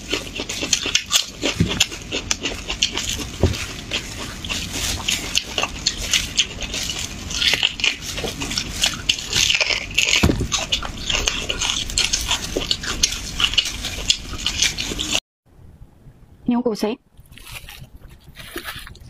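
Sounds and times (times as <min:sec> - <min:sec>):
smacking clicks and slurps: 0:00.0 - 0:15.2, 0:17.2 - 0:19.0
sucking and chewing: 0:00.0 - 0:15.2, 0:17.2 - 0:19.0.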